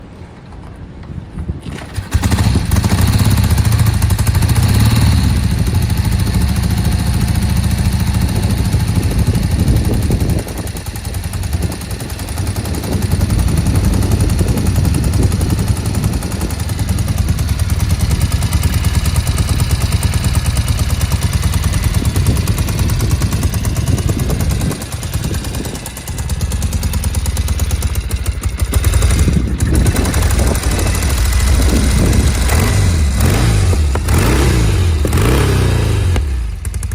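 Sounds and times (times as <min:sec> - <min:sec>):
motorcycle engine idling: 0:01.9 - 0:36.9.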